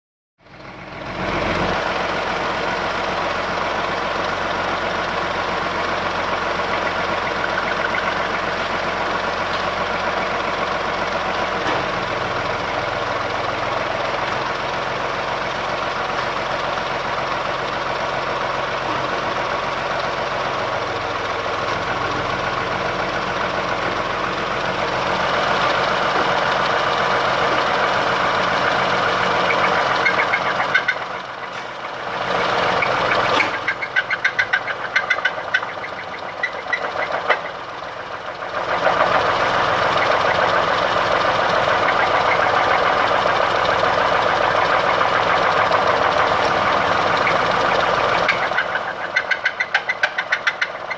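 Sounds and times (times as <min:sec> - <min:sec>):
car engine idling with knock: 0:02.0 - 0:50.9.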